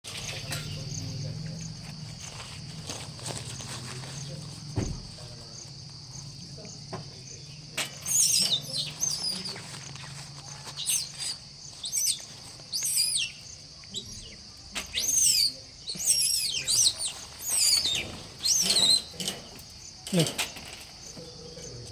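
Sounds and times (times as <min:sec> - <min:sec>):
high insect drone: 0:00.1 - 0:21.9.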